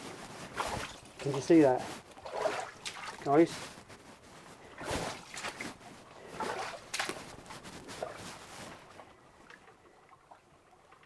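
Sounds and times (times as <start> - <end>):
boots wading through shallow water: 0.0 - 9.7.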